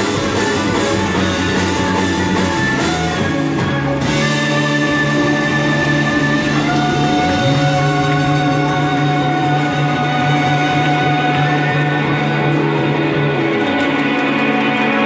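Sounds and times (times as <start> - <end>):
live band playing chords: 0.0 - 15.0.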